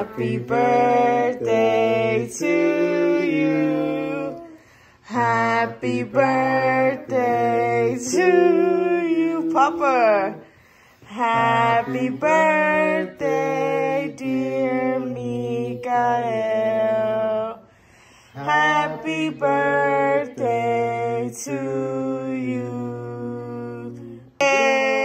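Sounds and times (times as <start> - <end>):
person singing slowly: 0.0 - 10.3, 11.0 - 25.0.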